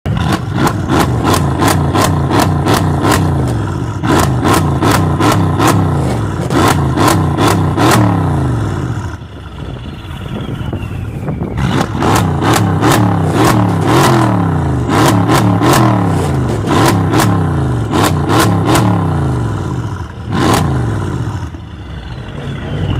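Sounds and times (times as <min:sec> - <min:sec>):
car engine revving in blips: 0:00.1 - 0:22.9.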